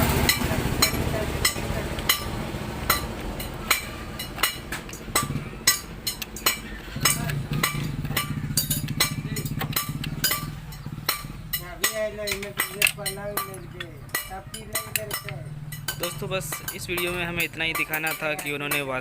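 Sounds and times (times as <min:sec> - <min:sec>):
steady low hum: 0:00.0 - 0:17.8
metallic clicks of tools and parts: 0:02.9 - 0:19.0.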